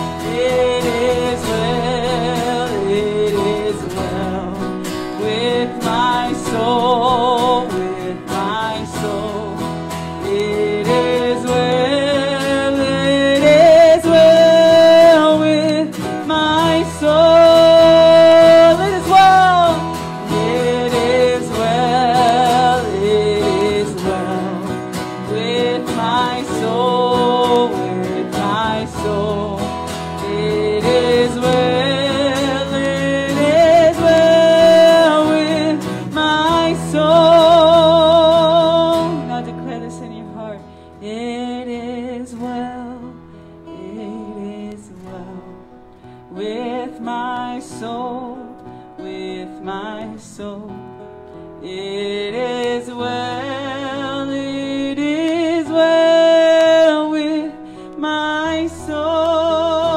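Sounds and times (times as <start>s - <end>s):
acoustic guitar: 0.0s - 59.9s
woman singing: 0.0s - 59.9s.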